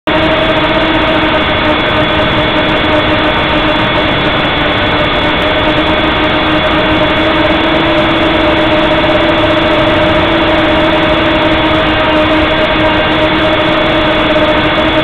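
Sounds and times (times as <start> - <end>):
drone motors and propellers whine: 0.1 - 15.0.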